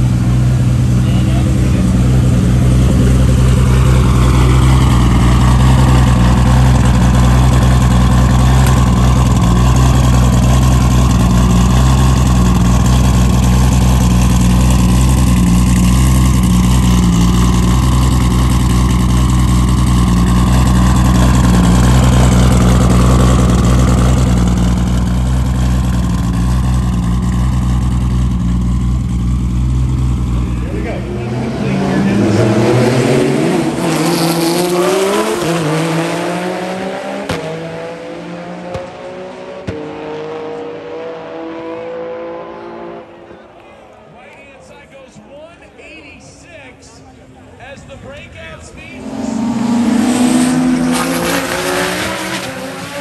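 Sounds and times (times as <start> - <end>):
car engine droning: 0.0 - 45.8, 46.7 - 53.0.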